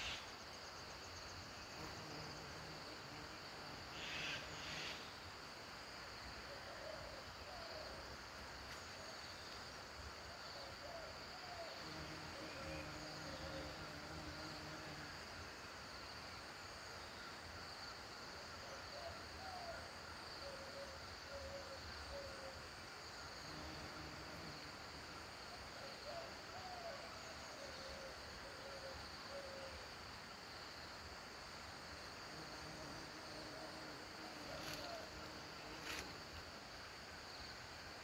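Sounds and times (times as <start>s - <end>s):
high insect-like hum: 0.0s - 38.0s.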